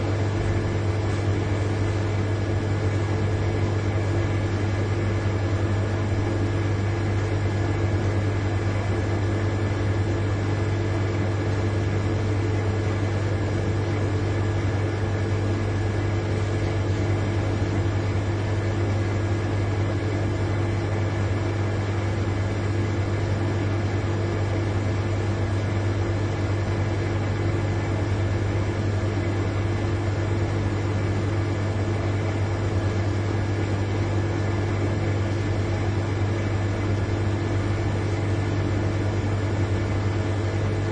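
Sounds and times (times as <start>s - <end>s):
refrigerator compressor hum: 0.0s - 40.9s.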